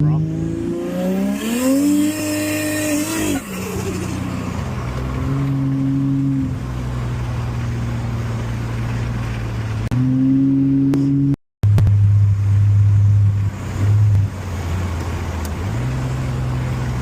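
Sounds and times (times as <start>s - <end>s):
car engine while driving: 0.0s - 17.0s.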